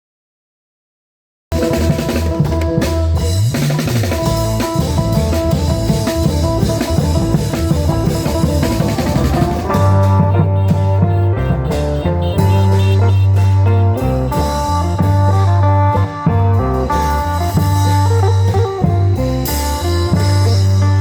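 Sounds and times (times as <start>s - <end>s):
band with drums bass and guitar: 1.5s - 21.0s
sustained low bass note: 4.2s - 21.0s.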